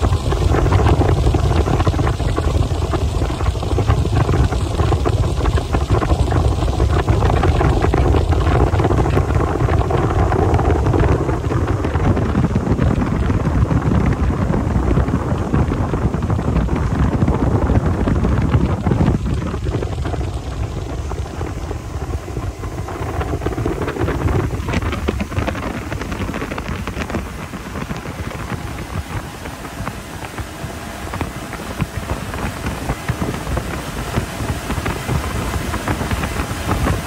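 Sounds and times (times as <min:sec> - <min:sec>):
outboard motors droning: 0:00.0 - 0:37.0
rushing water: 0:00.0 - 0:37.0
wind buffeting microphone: 0:00.0 - 0:37.0.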